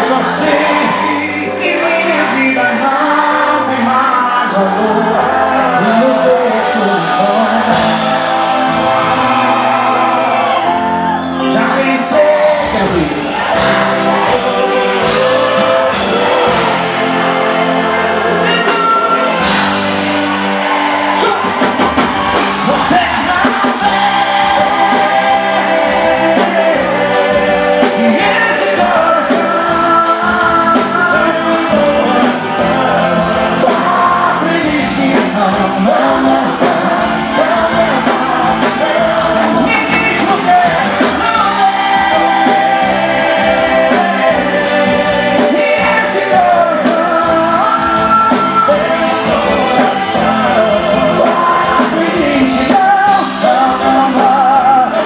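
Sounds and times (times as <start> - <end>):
live band playing: 0.0 - 55.0
person singing: 0.0 - 55.0.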